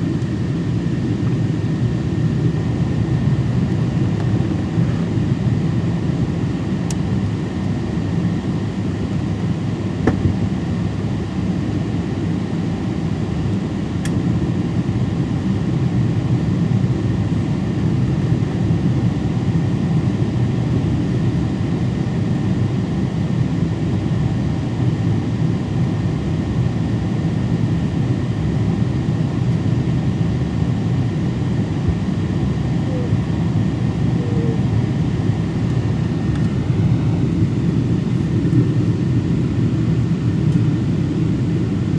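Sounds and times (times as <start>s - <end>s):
airliner cabin engine roar: 0.0s - 41.9s.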